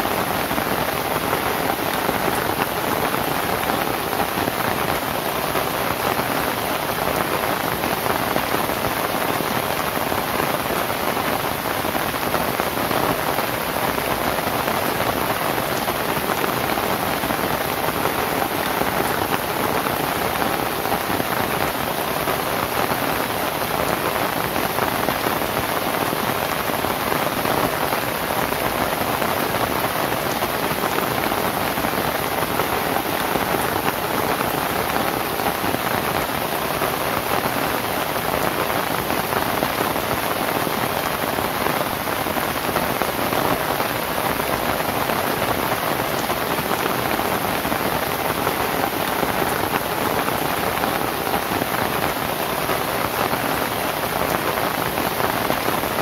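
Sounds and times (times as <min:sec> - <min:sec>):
rain on a thatched roof: 0:00.0 - 0:56.0.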